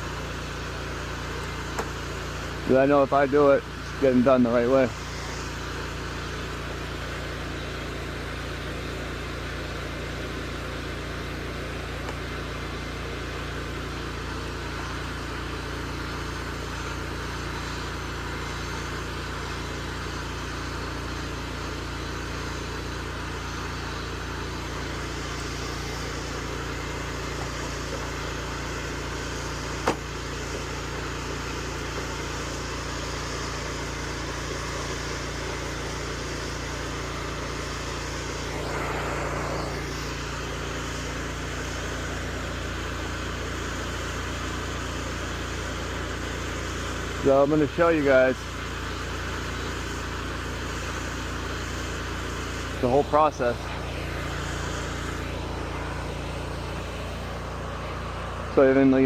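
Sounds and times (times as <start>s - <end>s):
pressure washer engine running: 0.0s - 59.0s.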